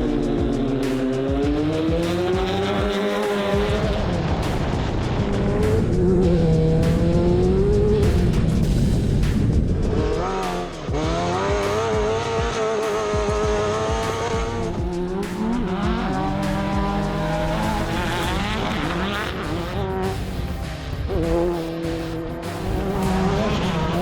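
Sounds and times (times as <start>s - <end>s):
race vehicle engine revving: 0.0s - 24.0s.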